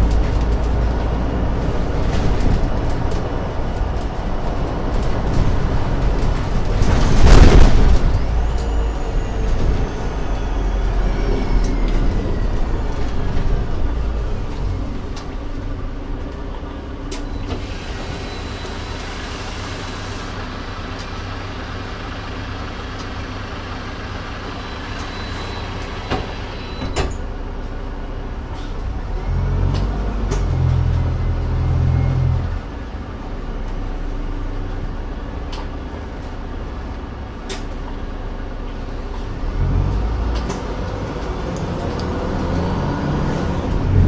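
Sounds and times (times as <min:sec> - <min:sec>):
bus engine whining and idling: 0:00.0 - 0:44.0.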